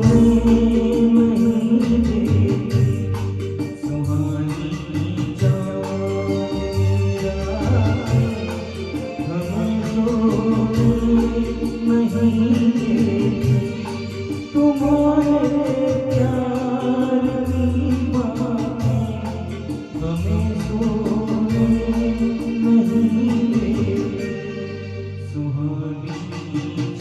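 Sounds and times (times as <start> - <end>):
instrumental backing with deep bass: 0.0 - 27.0
person singing: 0.0 - 27.0.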